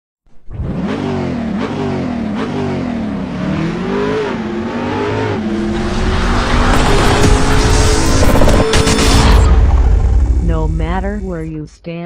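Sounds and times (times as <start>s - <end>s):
motorcycle engine revving: 0.3s - 11.0s.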